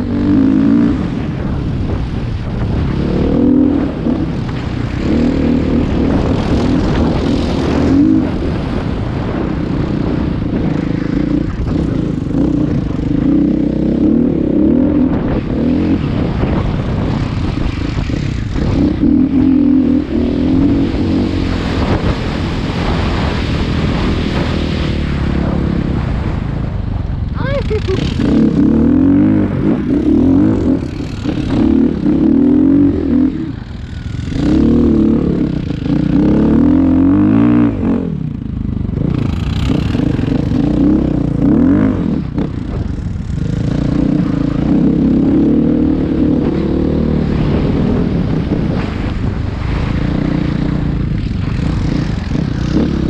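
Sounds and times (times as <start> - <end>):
off-road vehicle engine running: 0.0 - 53.0.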